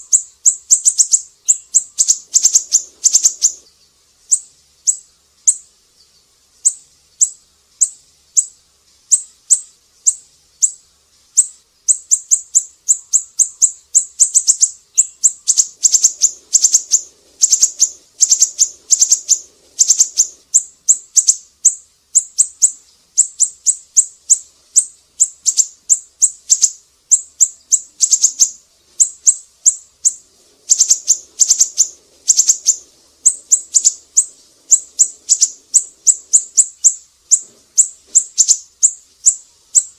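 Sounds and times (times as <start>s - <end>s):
bird calling in high chirps: 0.0s - 39.9s.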